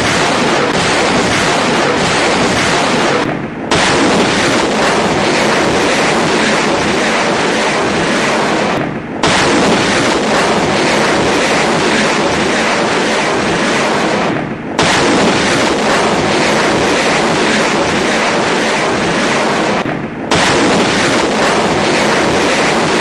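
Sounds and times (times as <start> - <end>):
rocket launcher firing salvo: 0.0 - 23.0.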